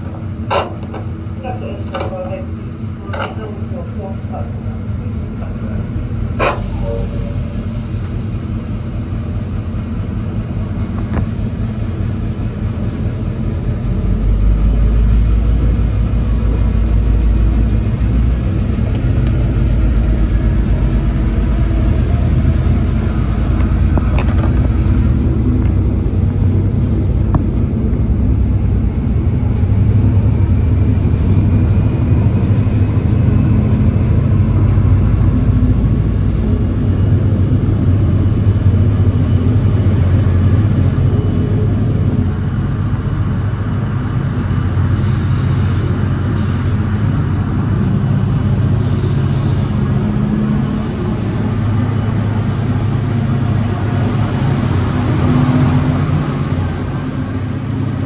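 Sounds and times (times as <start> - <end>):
locomotive low rumble: 0.0 - 58.0.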